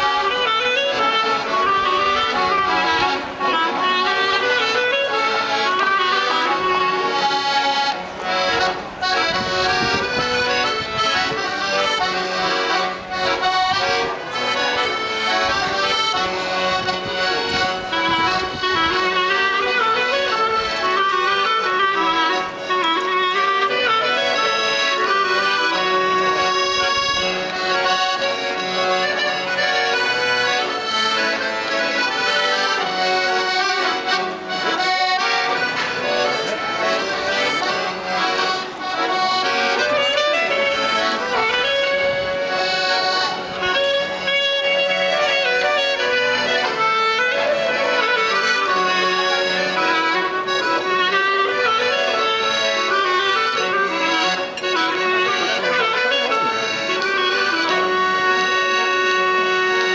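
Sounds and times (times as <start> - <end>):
clarinet melody: 0.0 - 59.9
piano accordion: 0.0 - 59.9.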